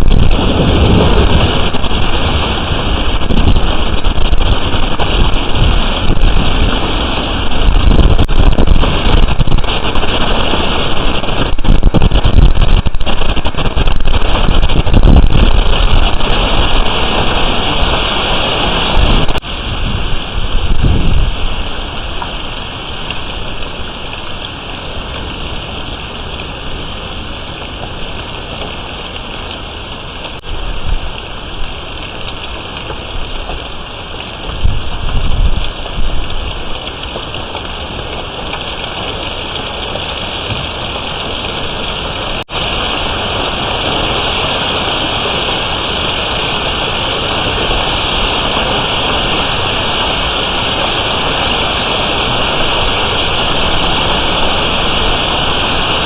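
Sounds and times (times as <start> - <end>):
heavy rain pouring: 0.0 - 56.0
wind gusts buffeting microphone: 0.0 - 56.0.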